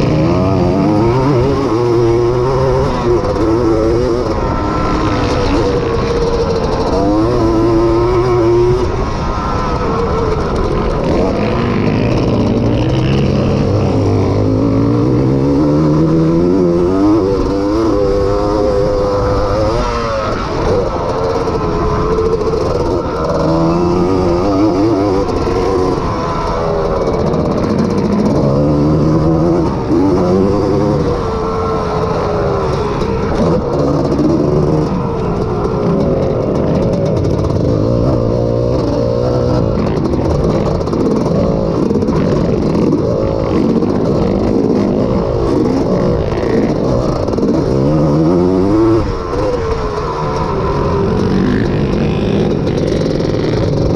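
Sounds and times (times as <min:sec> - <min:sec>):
two-stroke engine revving hard: 0:00.0 - 0:53.9.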